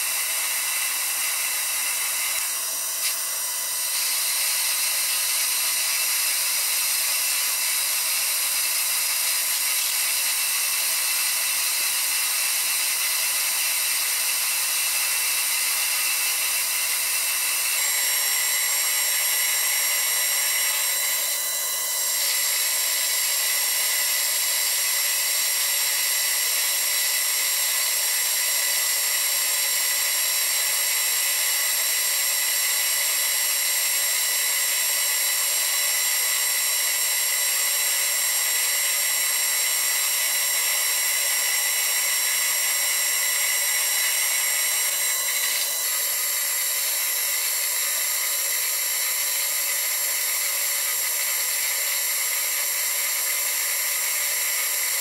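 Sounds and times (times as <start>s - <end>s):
high-pitched spindle whine: 0.0s - 55.0s
metal lathe cutting a shaft: 0.0s - 55.0s.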